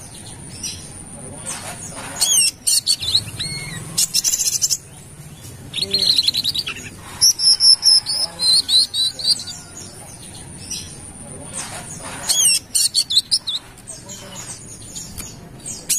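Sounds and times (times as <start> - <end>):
bird chirping and trilling: 0.0 - 15.9.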